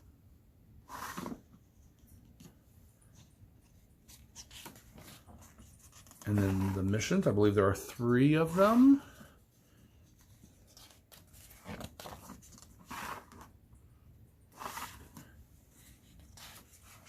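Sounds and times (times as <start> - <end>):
paper pages rustling: 0.9 - 9.1, 10.0 - 13.6, 14.6 - 17.0.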